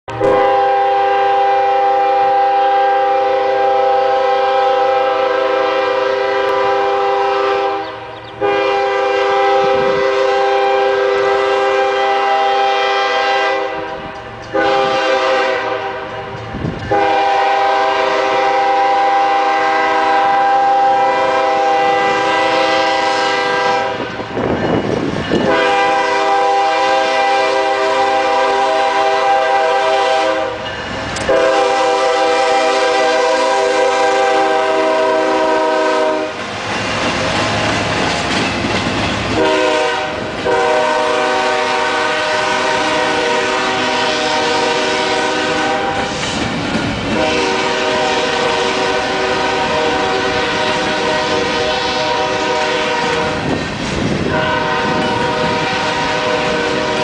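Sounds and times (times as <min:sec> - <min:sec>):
locomotive air horn blasts: 0:00.1 - 0:24.3, 0:25.4 - 0:30.6, 0:31.2 - 0:36.5, 0:39.3 - 0:46.2, 0:47.1 - 0:53.6, 0:54.2 - 0:57.0.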